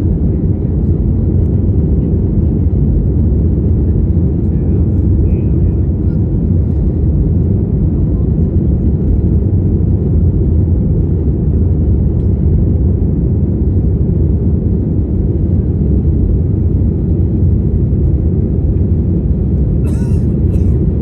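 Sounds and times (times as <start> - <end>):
airliner engines rumbling: 0.0 - 21.0.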